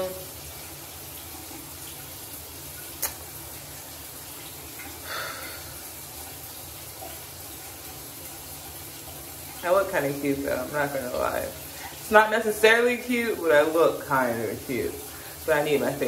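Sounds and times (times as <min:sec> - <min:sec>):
room noise hiss and hum: 0:00.0 - 0:16.0.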